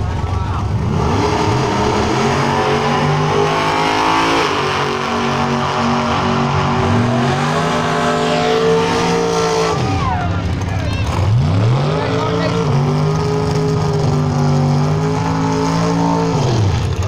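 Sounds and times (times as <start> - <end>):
drag car engines accelerating: 0.0 - 17.0.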